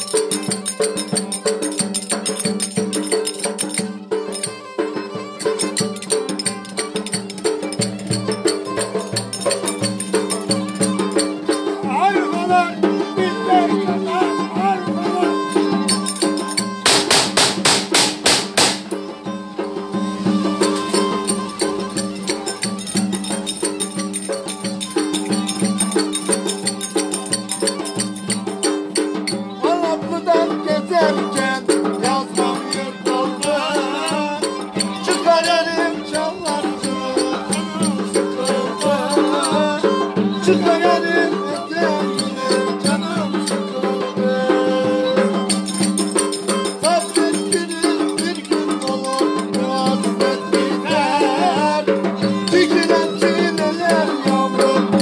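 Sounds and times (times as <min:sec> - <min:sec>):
rapid clicking percussion: 0:00.0 - 0:55.0
violin folk dance tune: 0:00.0 - 0:55.0.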